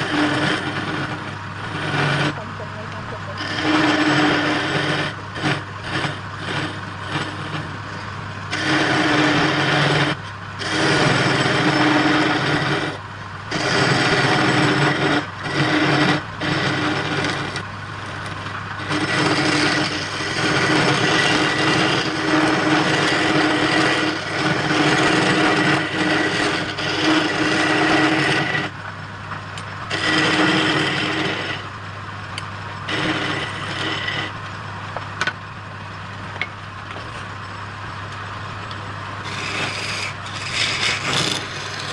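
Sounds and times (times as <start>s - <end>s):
wood lathe humming: 0.0s - 35.0s, 35.6s - 41.9s
tool cutting spinning wood: 0.0s - 35.4s, 38.6s - 41.9s.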